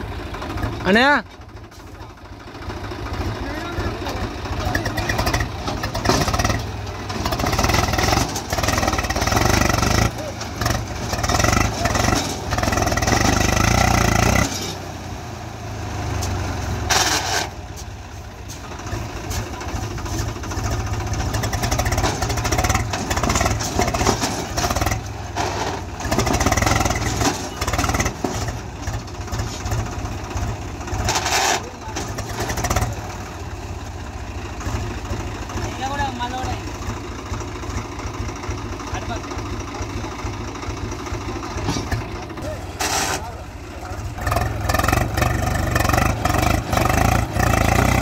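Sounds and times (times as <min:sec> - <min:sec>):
tractor diesel engine idling: 0:00.0 - 0:48.0.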